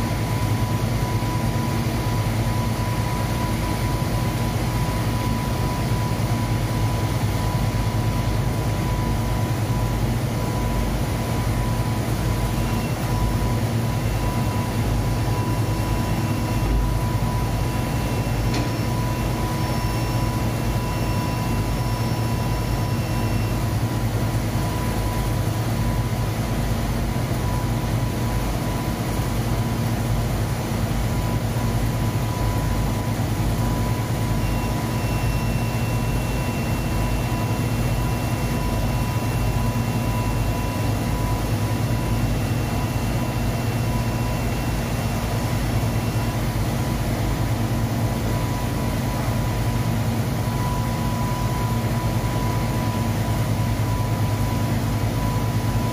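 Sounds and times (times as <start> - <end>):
laundry machinery low hum: 0.0 - 55.9
thin steady whine: 0.0 - 55.9.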